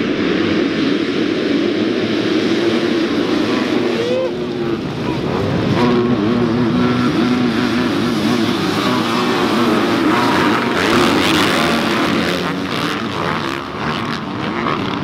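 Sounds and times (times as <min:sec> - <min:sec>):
motocross bikes racing: 0:00.0 - 0:15.0.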